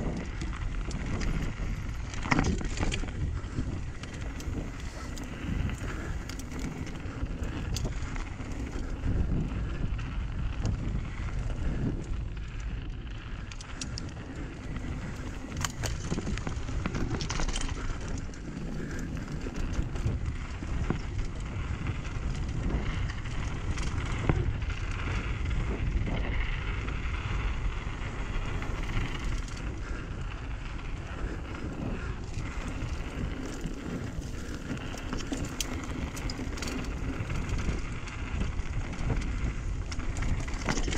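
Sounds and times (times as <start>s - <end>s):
bike clicks and rattles: 0.0s - 40.9s
bike tyres crunching over dirt: 0.0s - 40.9s
wind buffeting microphone: 0.0s - 40.9s.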